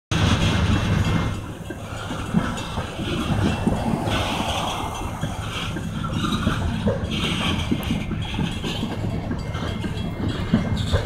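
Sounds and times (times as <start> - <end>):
train cars knocking and rattling: 0.1 - 11.0
train wheels rumbling on rail: 0.1 - 11.0.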